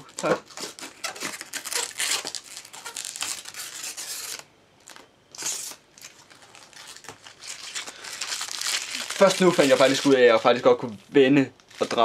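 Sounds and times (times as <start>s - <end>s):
plastic film crinkling and peeling: 0.0s - 12.0s.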